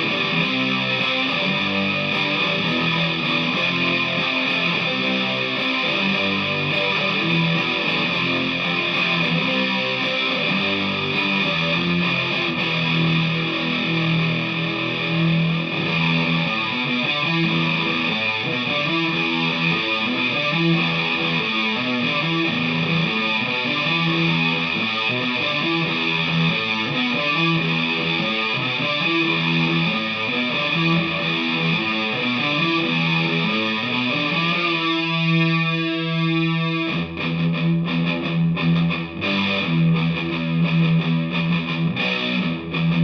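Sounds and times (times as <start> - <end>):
distorted electric guitar riff: 0.0 - 43.0.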